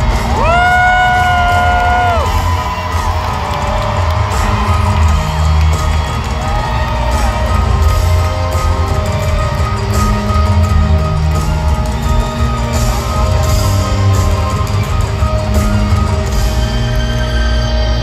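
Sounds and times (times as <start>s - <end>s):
amplified pop-rock band music: 0.0s - 18.0s.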